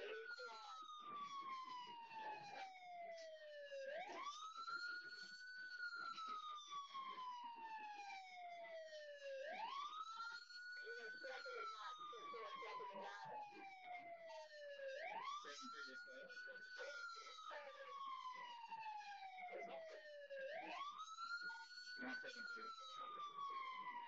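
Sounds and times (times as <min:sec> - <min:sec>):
faint police siren wailing: 0:00.0 - 0:24.0.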